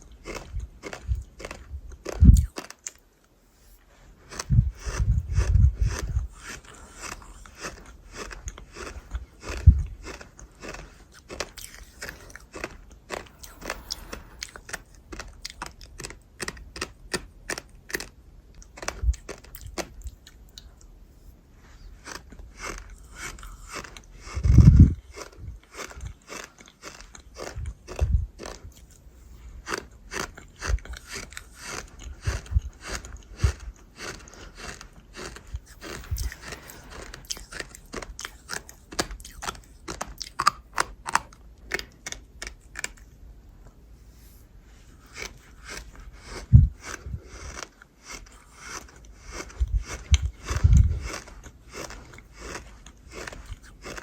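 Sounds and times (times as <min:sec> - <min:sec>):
crunchy chewing: 0:00.0 - 0:43.2, 0:44.2 - 0:54.0.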